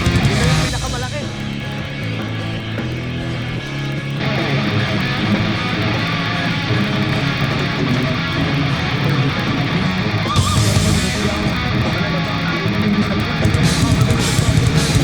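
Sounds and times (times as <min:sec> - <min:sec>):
heavy metal rock music: 0:00.0 - 0:15.0.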